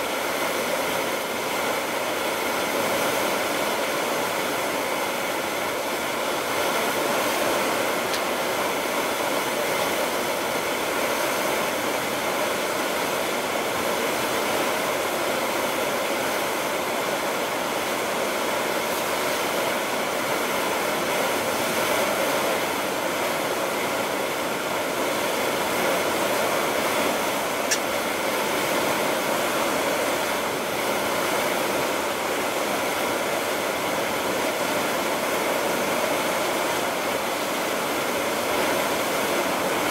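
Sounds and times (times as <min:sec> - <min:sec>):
ship rushing through water: 0:00.0 - 0:39.9.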